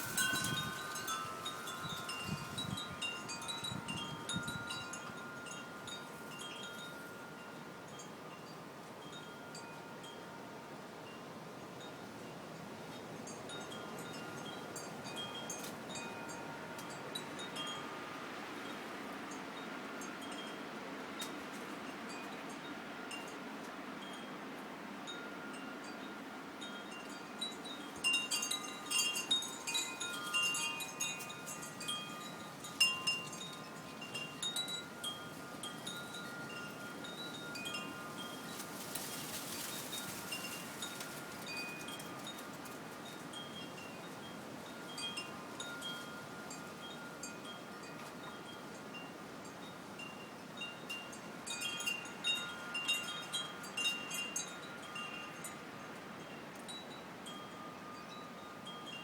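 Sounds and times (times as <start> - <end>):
wind chimes ringing: 0.0 - 12.4, 13.0 - 18.9, 25.1 - 59.0.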